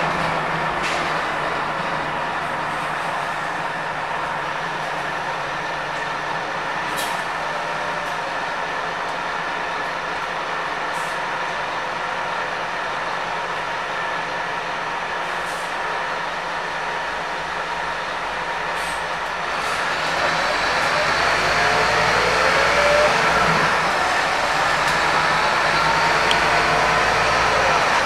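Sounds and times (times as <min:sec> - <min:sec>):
bus engine running: 0:00.0 - 0:28.0
road noise: 0:00.0 - 0:28.0.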